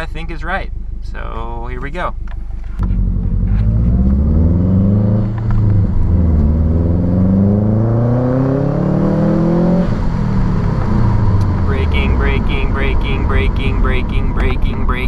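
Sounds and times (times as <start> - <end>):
car engine accelerating hard: 2.8 - 15.0.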